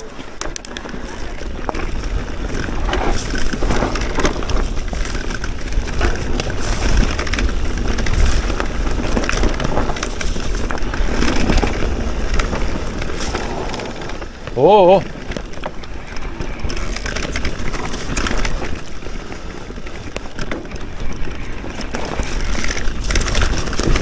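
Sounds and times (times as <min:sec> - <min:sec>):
bike rattling and knocking: 0:00.0 - 0:24.0
tyres crunching over stones: 0:00.0 - 0:24.0
wind buffeting microphone: 0:00.0 - 0:24.0.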